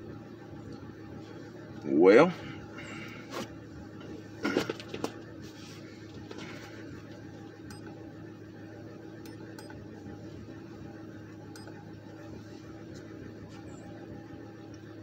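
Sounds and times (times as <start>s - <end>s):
car engine idling with misfire: 0.0s - 15.0s.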